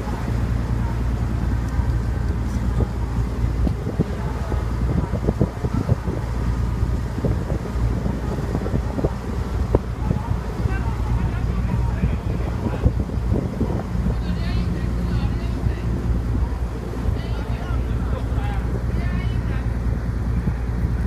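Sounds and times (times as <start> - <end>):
low engine drone: 0.0 - 21.0
wind buffeting microphone: 0.0 - 21.0.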